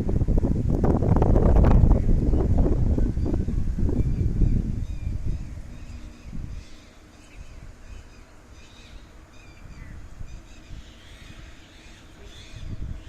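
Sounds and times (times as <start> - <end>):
birds chirping: 1.8 - 13.0.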